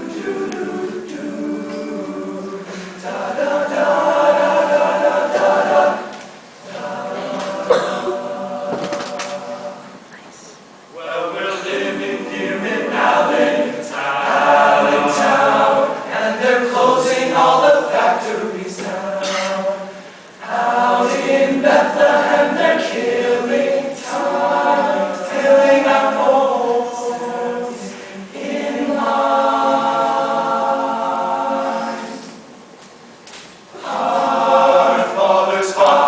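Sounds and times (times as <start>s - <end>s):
choir singing a cappella: 0.0s - 10.1s, 10.9s - 32.7s, 33.7s - 36.0s.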